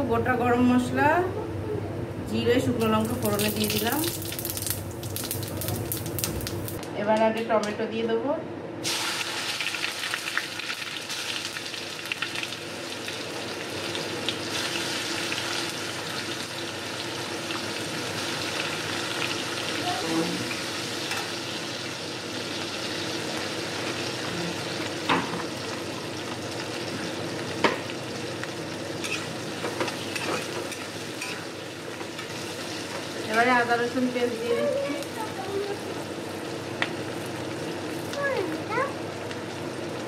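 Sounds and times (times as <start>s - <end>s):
food sizzling in hot oil: 2.8s - 6.9s, 8.8s - 40.0s.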